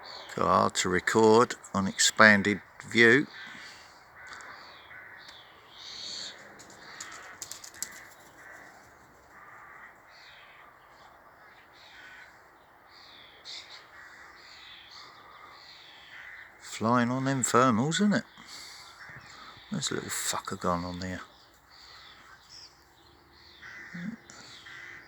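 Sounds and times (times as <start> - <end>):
birds alarm calling: 0.0 - 25.0.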